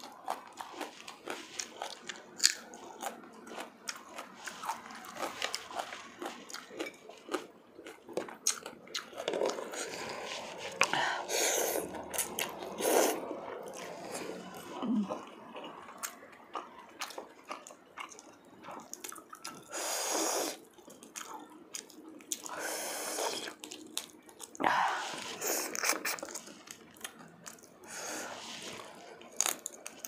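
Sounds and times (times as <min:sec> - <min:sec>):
chewing: 0:00.0 - 0:11.0, 0:11.7 - 0:22.6, 0:23.2 - 0:30.0.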